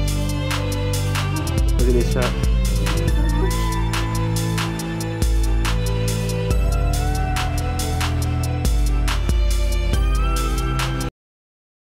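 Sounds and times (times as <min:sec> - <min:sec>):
music with heavy bass: 0:00.0 - 0:11.1.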